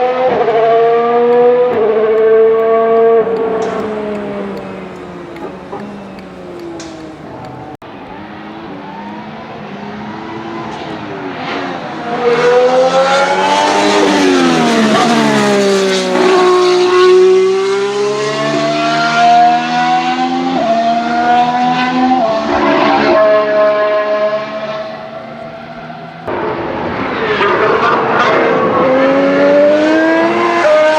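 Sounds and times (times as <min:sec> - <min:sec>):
engine upshifts: 0:00.0 - 0:30.9
racing car engines at high revs: 0:00.0 - 0:30.9
racing car passing by: 0:00.0 - 0:30.9.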